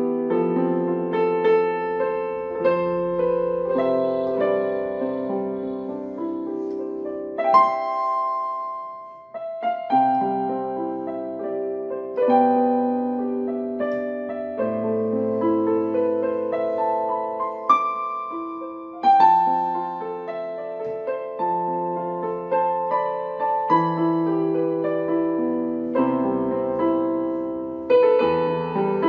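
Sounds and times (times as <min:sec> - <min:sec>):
keyboard playing piano chords and melody: 0:00.0 - 0:29.0.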